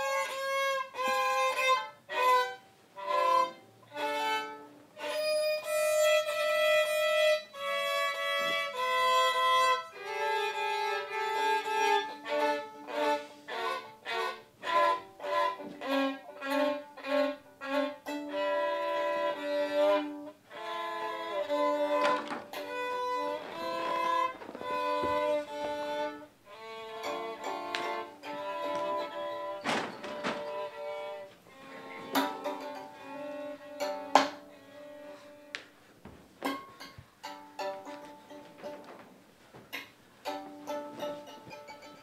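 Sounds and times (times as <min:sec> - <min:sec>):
solo violin melody: 0:00.0 - 0:36.6, 0:37.2 - 0:38.9, 0:39.7 - 0:42.0.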